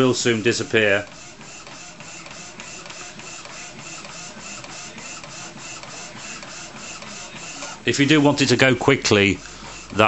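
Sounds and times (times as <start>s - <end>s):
inkjet printer carriage whirring: 0.0s - 10.0s.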